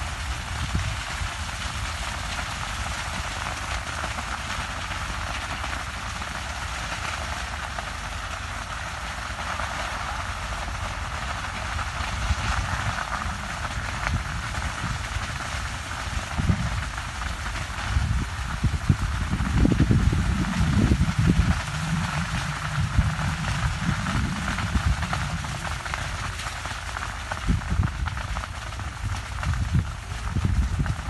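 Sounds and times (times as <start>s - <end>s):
burning field crackling: 0.0s - 31.0s.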